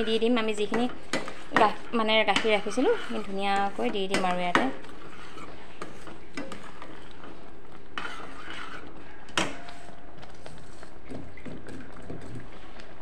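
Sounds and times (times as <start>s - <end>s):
ladle stirring and scraping pot: 0.0s - 13.0s.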